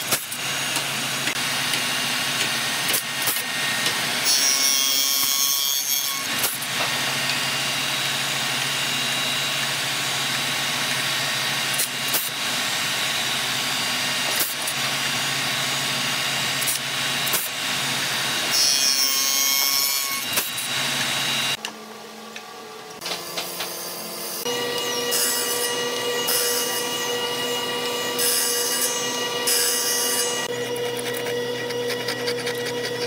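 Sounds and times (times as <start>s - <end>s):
woodworking machine running: 0.0s - 5.4s, 6.1s - 23.8s, 24.4s - 33.0s
wood shaper cutting wood: 0.0s - 21.6s, 23.0s - 33.0s.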